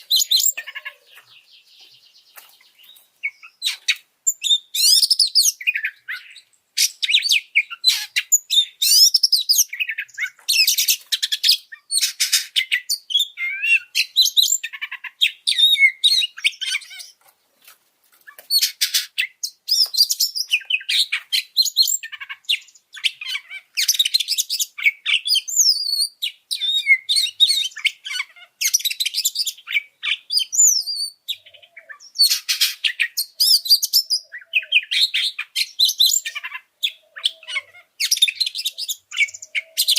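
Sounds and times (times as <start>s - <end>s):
bird singing whistles and chatter: 2.9s - 14.9s, 18.5s - 39.9s.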